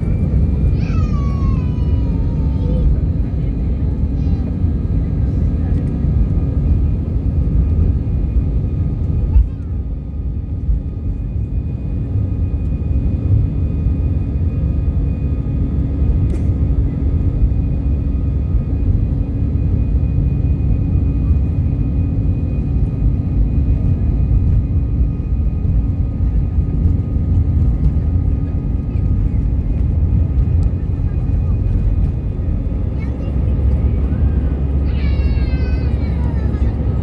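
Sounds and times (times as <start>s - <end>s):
airliner engines running: 0.0s - 37.0s.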